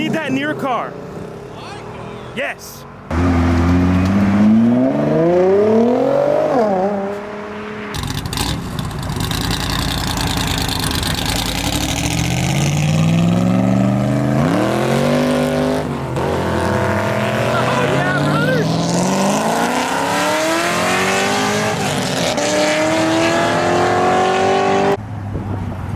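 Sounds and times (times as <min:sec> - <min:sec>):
car engine revving: 0:03.1 - 0:25.6.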